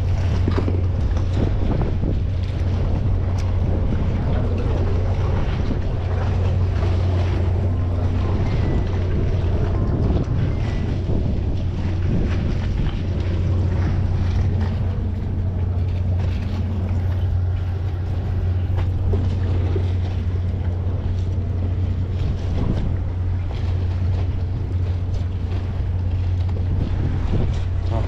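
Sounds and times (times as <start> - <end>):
boat engine humming: 0.0 - 28.0
wind on microphone: 0.0 - 28.0.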